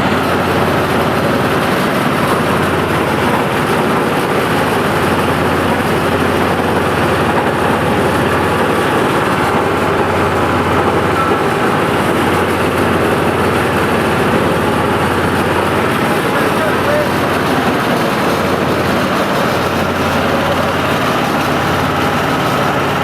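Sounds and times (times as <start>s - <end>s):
rice thresher engine droning: 0.0s - 23.0s.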